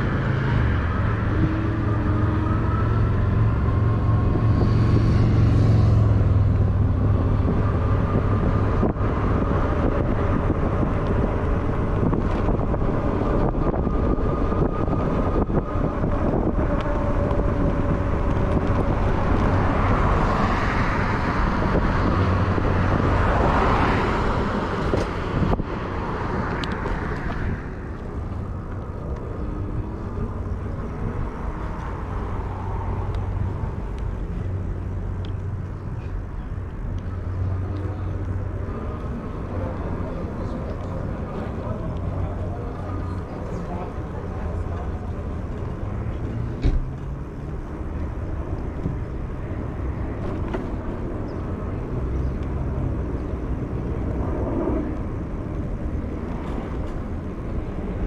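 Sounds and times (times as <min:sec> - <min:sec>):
steady low rumble: 0:00.0 - 0:58.0
street traffic: 0:00.0 - 0:58.0
vehicle passing: 0:00.0 - 0:58.0.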